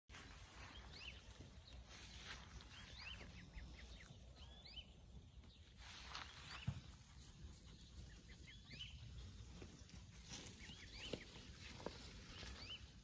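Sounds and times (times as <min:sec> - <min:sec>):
ducklings peeping: 0:00.1 - 0:13.0.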